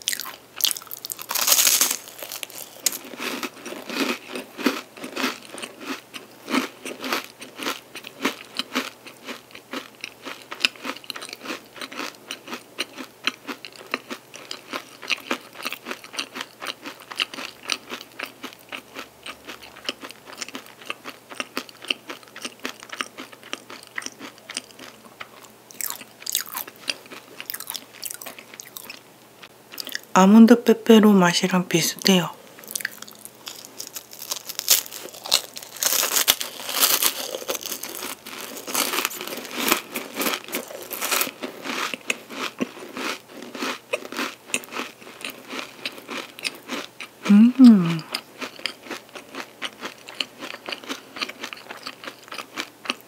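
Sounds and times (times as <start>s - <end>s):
crunchy chewing: 0.0s - 30.1s, 32.6s - 53.0s.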